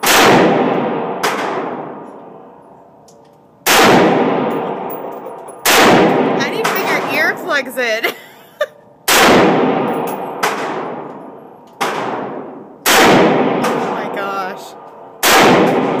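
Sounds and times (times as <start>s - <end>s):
rifle shots echoing: 0.0s - 2.7s, 3.6s - 7.4s, 9.1s - 16.0s.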